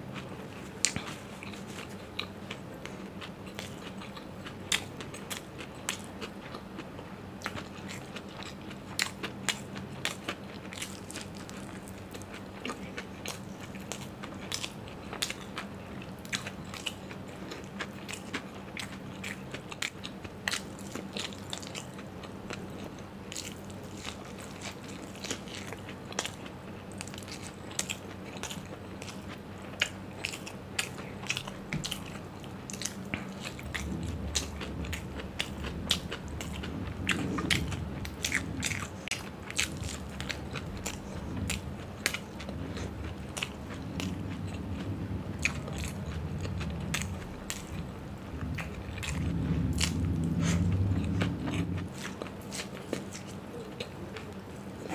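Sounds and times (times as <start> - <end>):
steady low hum: 0.0 - 54.9
chewing with wet mouth clicks: 0.2 - 54.9.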